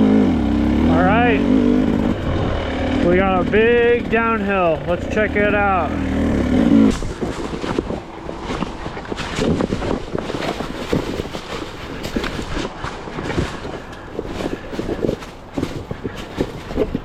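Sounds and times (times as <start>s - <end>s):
dirt bike clattering over rocks: 3.1s - 17.0s.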